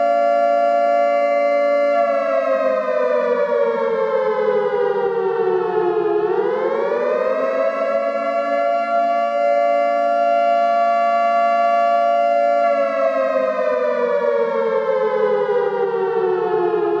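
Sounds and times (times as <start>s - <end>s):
civil defense siren: 0.0s - 17.0s.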